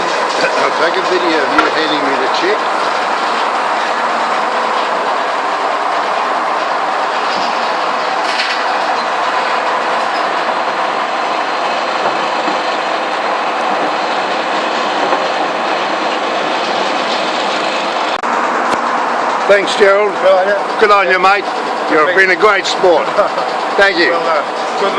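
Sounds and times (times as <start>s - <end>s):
sawmill machinery running: 0.0s - 24.9s.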